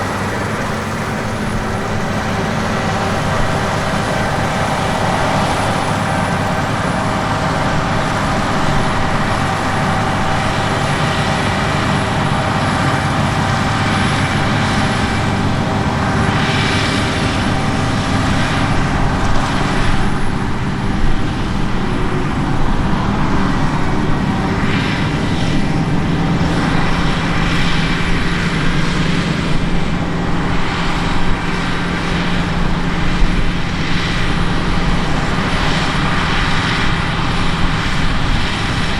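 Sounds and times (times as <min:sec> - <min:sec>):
diesel machinery engine hum: 0:00.0 - 0:38.9
rushing noise: 0:00.0 - 0:38.9.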